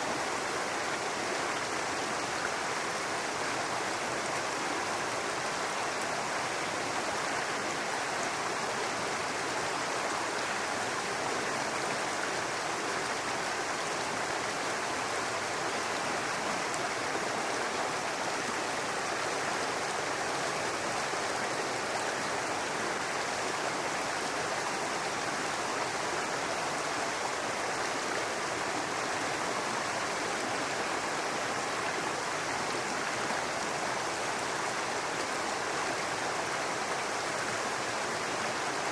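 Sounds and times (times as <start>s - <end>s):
brook babbling over rocks: 0.0s - 38.9s.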